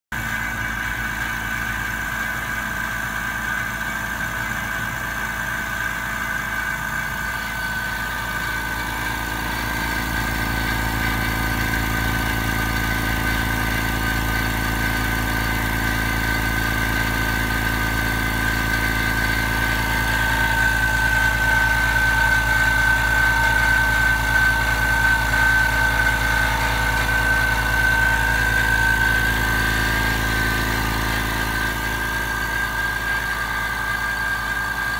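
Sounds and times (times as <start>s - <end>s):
air compressor running: 0.0s - 34.9s.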